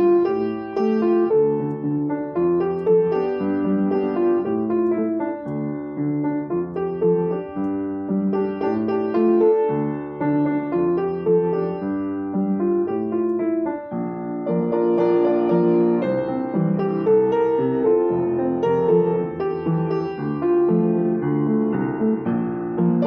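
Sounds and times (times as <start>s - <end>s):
piano playing chords and melody: 0.0s - 23.0s.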